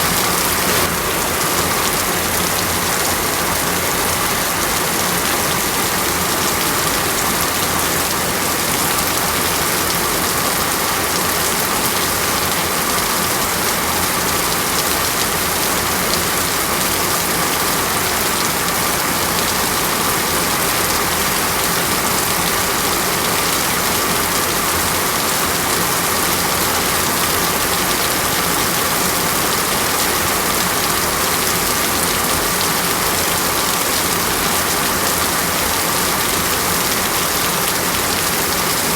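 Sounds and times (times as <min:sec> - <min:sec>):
heavy rain on leaves: 0:00.0 - 0:38.9.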